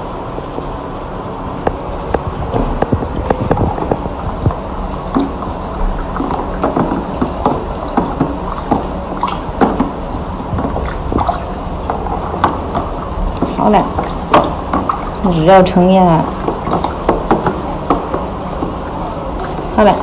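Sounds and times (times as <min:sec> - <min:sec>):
low machine hum: 0:00.0 - 0:20.0
water dripping and splashing: 0:00.0 - 0:20.0.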